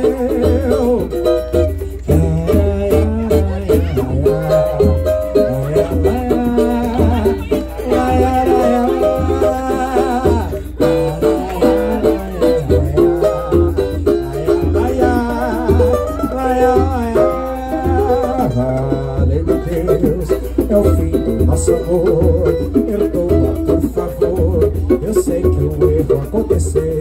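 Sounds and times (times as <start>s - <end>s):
plucked strings melody: 0.0s - 27.0s
pulsing bass beat: 0.0s - 27.0s.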